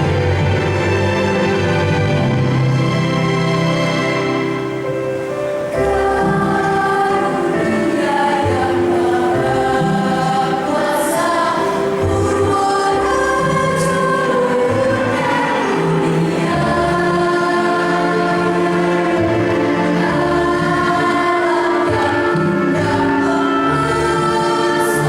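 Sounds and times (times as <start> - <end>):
choir singing long notes: 0.0 - 25.0.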